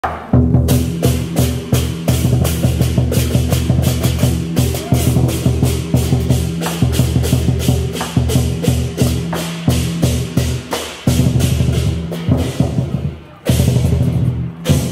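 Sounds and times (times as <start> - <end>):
fast percussion beat: 0.0 - 14.9.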